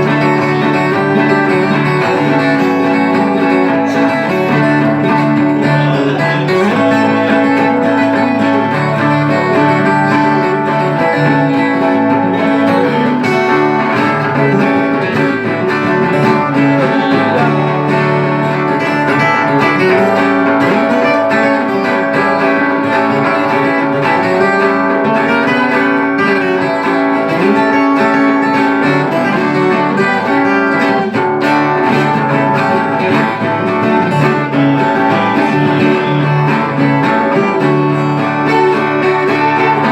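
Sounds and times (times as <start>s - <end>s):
acoustic guitar playing: 0.0s - 39.9s
plucked viola caipira: 0.0s - 39.9s.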